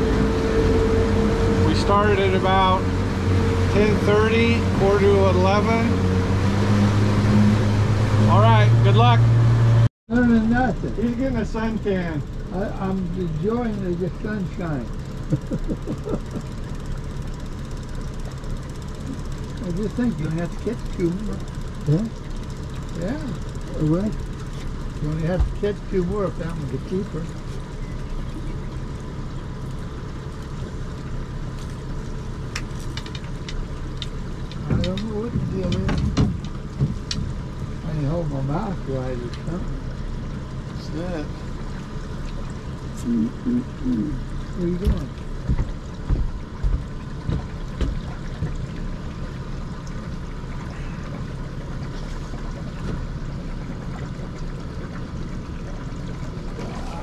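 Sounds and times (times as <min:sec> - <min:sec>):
outboard motor humming: 0:00.0 - 0:57.0.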